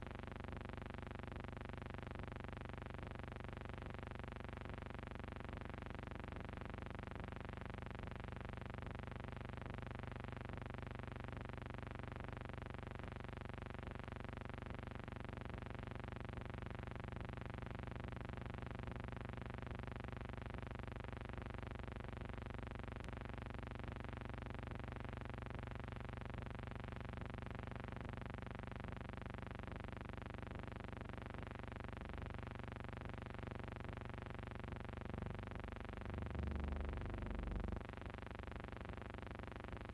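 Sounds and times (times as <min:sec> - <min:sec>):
droning hum with overtones: 0:00.0 - 0:39.9.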